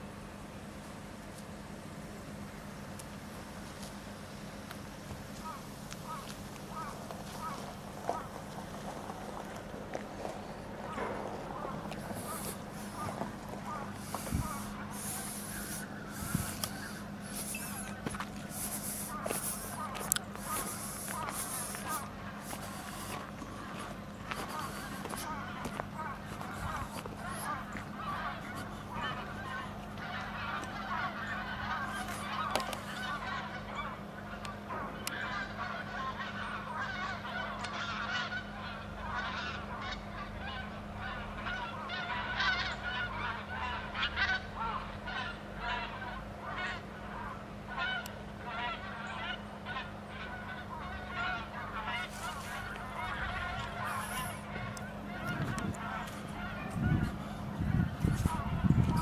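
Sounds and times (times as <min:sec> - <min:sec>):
steady low hum: 0:00.0 - 0:59.0
geese honking: 0:02.1 - 0:59.0.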